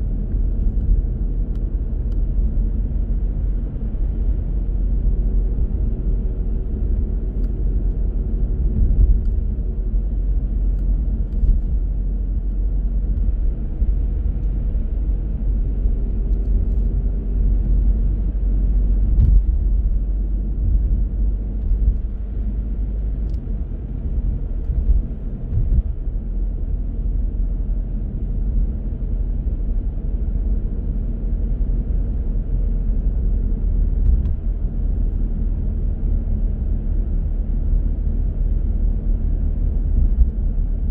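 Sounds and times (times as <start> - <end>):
engine and tyre rumble: 0.0 - 40.9
faint engine hum: 0.0 - 40.9.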